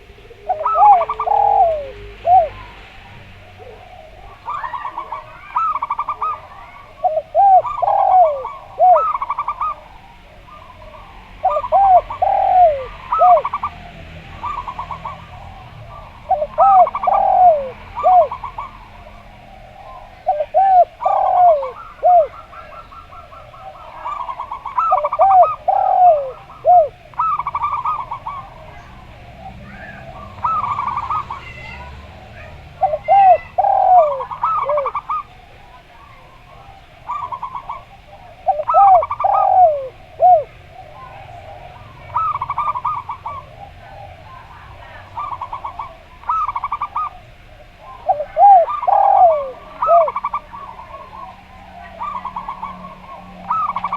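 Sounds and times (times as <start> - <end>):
doves cooing: 0.0 - 53.9.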